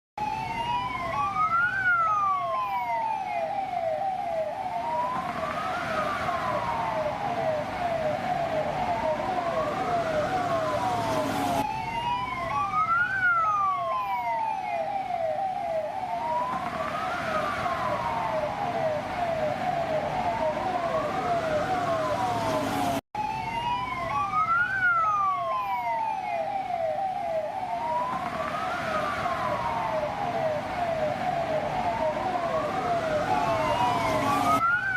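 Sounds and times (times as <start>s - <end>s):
police siren wail: 0.2s - 34.9s
police siren yelp: 0.2s - 34.9s.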